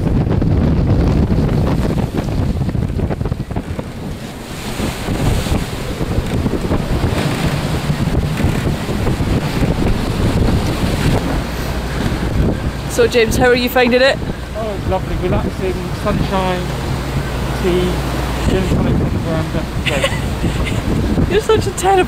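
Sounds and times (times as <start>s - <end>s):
strong wind buffeting microphone: 0.0s - 22.0s
waves breaking and water streaming: 0.0s - 22.0s.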